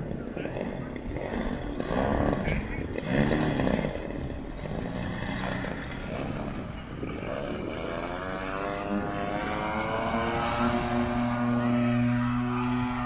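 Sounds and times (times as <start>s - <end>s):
model airplane engine and propeller: 0.0s - 13.0s.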